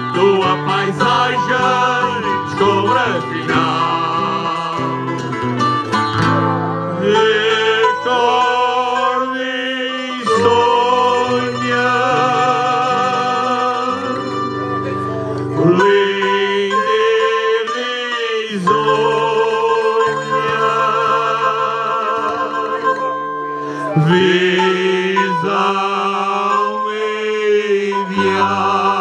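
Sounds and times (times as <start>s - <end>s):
folk music with plucked strings: 0.0s - 29.0s.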